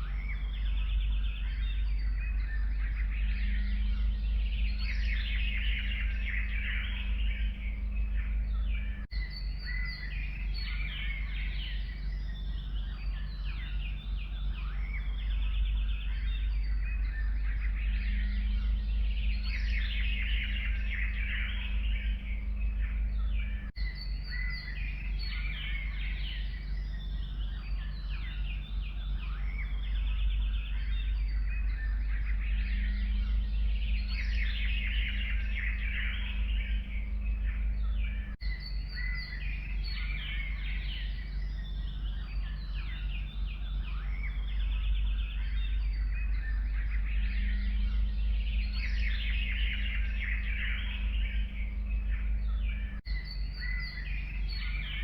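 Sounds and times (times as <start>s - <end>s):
forest birds chorus: 0.0s - 55.0s
steady low rumble: 0.0s - 55.0s.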